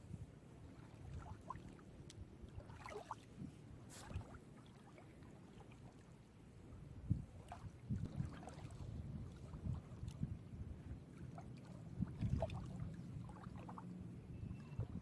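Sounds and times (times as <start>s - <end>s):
waves lapping at the shore: 0.0s - 14.8s
wind: 0.0s - 15.0s.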